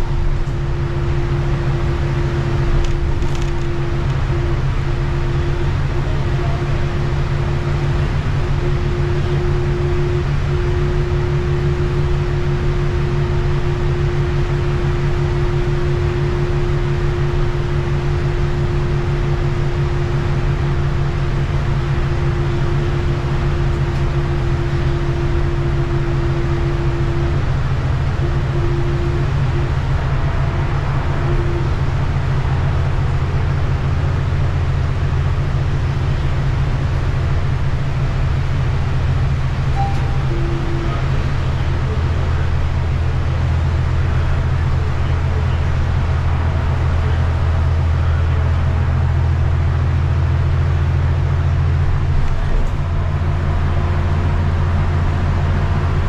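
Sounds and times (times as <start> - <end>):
bus engine drone: 0.0 - 56.0
high whine: 0.0 - 56.0
road noise: 0.0 - 56.0.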